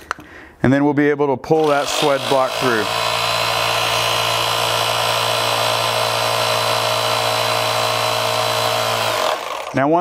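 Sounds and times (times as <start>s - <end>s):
hydraulic power unit humming: 1.6s - 10.0s.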